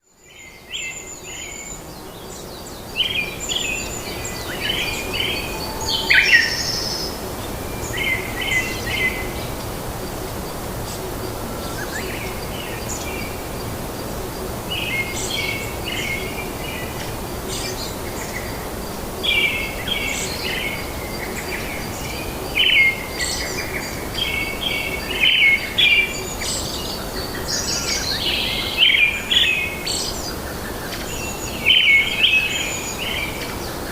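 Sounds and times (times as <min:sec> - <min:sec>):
birds singing and chirping: 0:00.0 - 0:33.9
steady background noise: 0:00.1 - 0:33.9.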